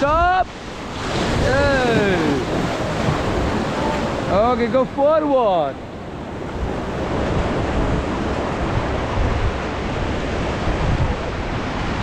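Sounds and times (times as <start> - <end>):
wind buffeting microphone: 0.0 - 5.1, 5.8 - 12.0
whitewater rapids rushing: 0.0 - 12.0.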